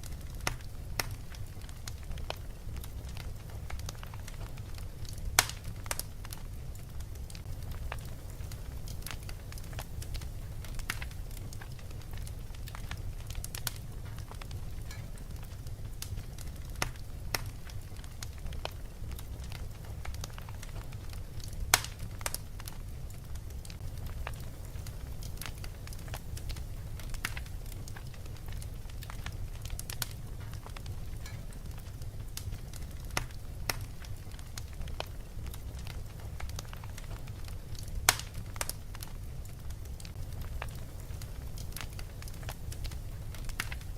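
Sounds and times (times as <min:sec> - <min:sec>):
fire crackling and popping: 0:00.0 - 0:43.9.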